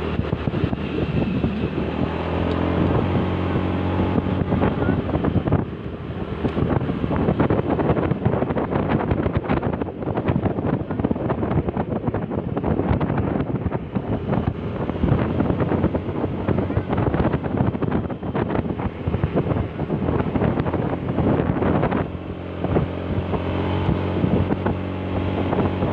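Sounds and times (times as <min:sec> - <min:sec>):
engine rumble: 0:00.0 - 0:25.9
wind buffeting microphone: 0:00.0 - 0:25.9.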